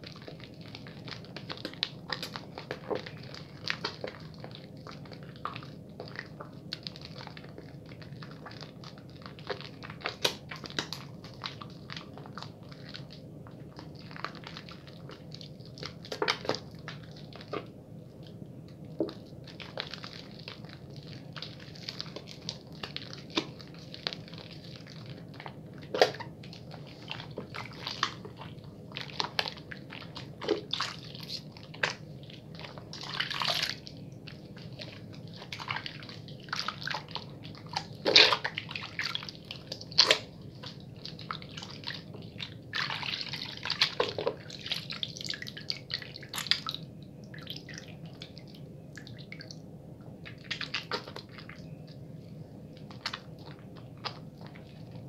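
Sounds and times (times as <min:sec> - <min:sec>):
wet hands lathering soap: 0:00.1 - 0:52.0, 0:52.7 - 0:55.0.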